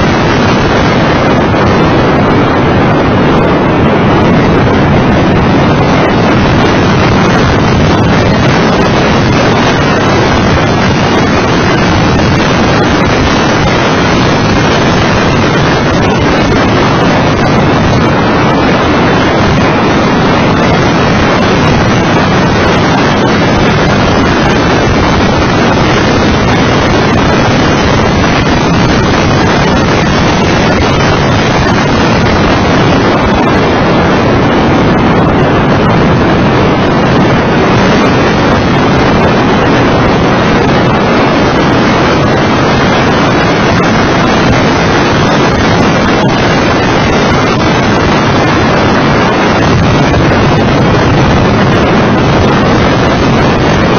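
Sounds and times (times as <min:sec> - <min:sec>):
road noise: 0:00.0 - 0:53.9
wind buffeting microphone: 0:00.0 - 0:53.9.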